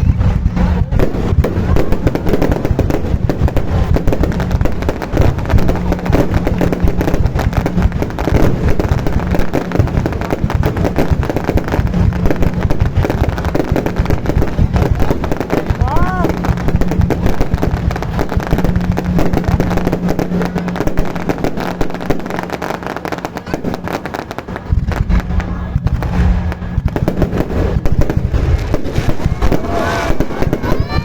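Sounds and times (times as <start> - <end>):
fireworks bangs and crackles: 0.0 - 31.0
heavy low rumble: 0.0 - 31.0.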